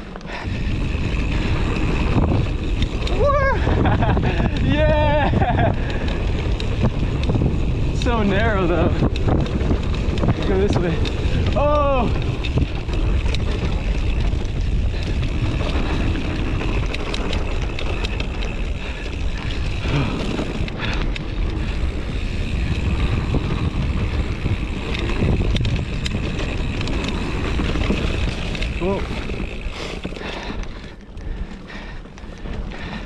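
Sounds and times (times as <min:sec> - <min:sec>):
bike rattling over rough ground: 0:00.0 - 0:33.0
tyres on dirt: 0:00.0 - 0:33.0
wind buffeting microphone: 0:00.0 - 0:33.0.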